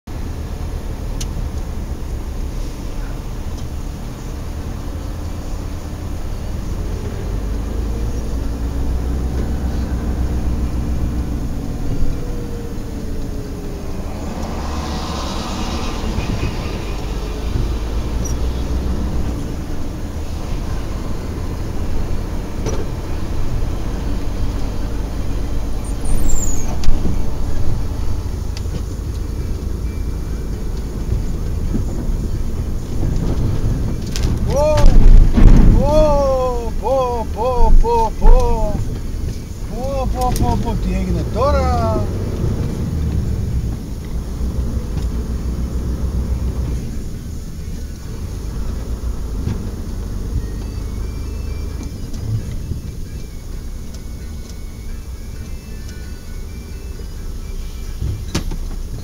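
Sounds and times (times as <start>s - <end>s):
truck engine running: 0.1s - 59.0s
cab rumbling and rattling: 0.2s - 59.0s.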